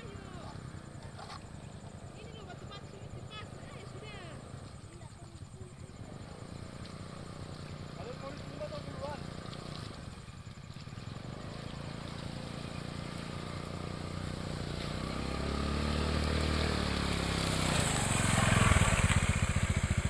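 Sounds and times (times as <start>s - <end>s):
small motorcycle engine chugging: 0.0s - 20.0s.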